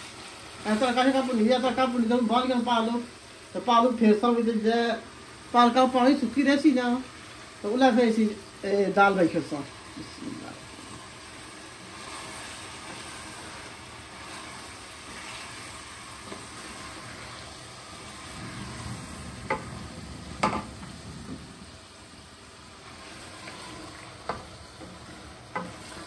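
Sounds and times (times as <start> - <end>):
spinach sizzling in a pot: 0.0 - 26.0.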